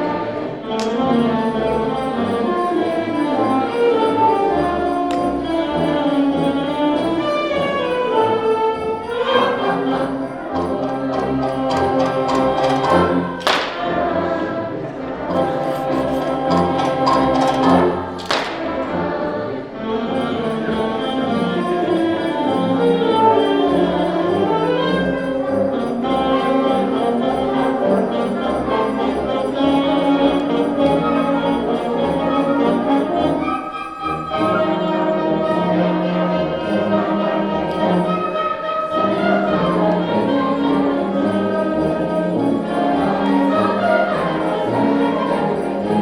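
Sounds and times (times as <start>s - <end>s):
school band playing with brass: 0.0s - 46.0s.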